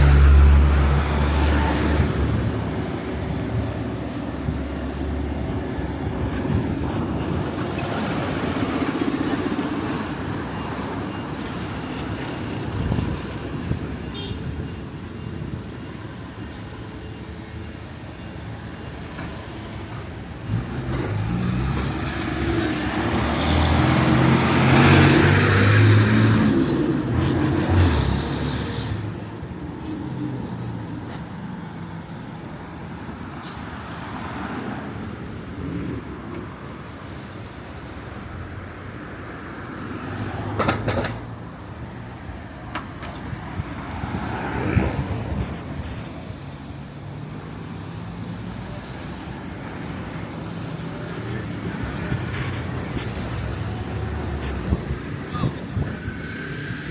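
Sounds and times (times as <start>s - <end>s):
background traffic: 0.0s - 56.9s.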